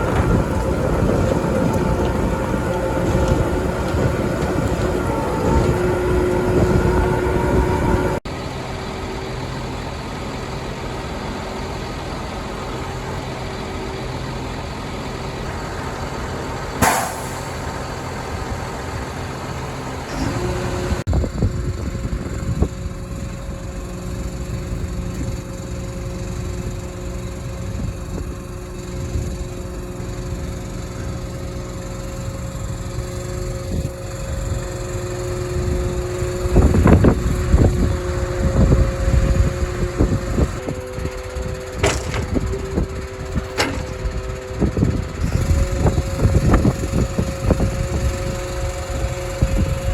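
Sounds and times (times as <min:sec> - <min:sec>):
diesel machinery running: 0:00.0 - 0:49.9.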